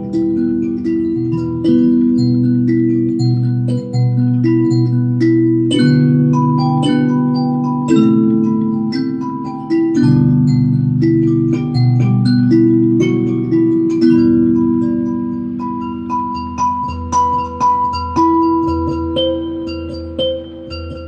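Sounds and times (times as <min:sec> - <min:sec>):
mbira notes: 0:00.0 - 0:21.0.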